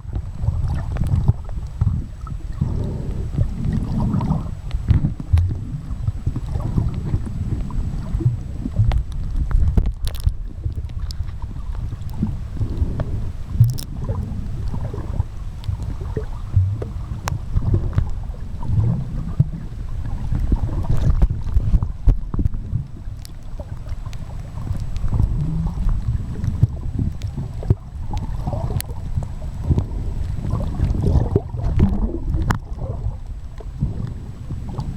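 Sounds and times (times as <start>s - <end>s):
sea water sloshing: 0.0s - 34.9s.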